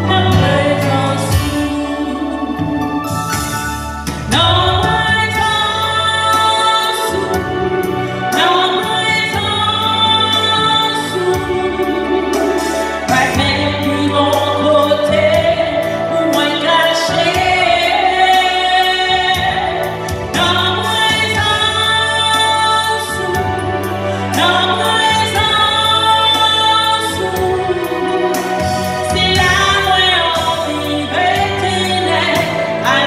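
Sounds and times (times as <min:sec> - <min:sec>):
woman singing gospel: 0:00.0 - 0:03.6, 0:04.2 - 0:33.0
instrumental accompaniment with bass: 0:00.0 - 0:33.0.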